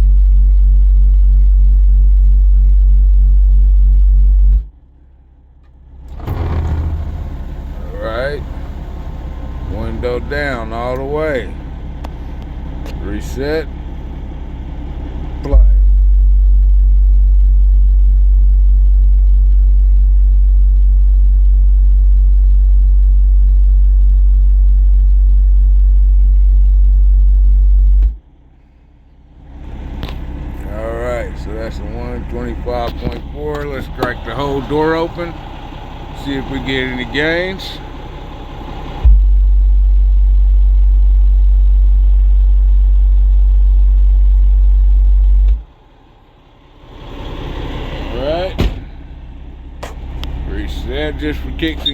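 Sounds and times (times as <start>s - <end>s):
loud bass test tone: 0.0s - 45.9s, 46.7s - 51.9s.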